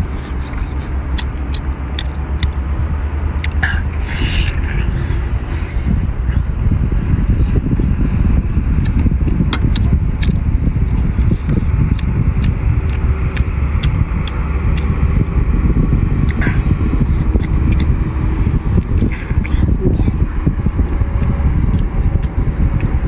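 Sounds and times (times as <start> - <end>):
person chewing food: 0.0 - 2.7, 3.3 - 15.4, 16.2 - 23.0
steady low rumble: 0.0 - 23.0.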